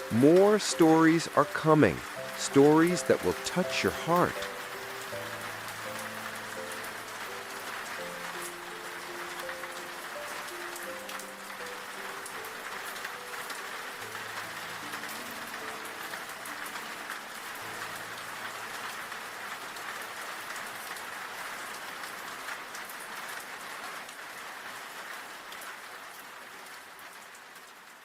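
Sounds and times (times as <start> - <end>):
heavy rain on hard surfaces: 0.0 - 28.0.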